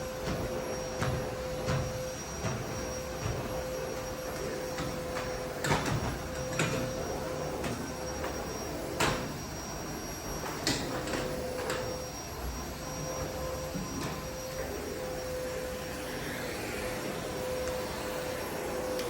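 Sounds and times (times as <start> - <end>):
vacuum cleaner motor humming: 0.0 - 19.0.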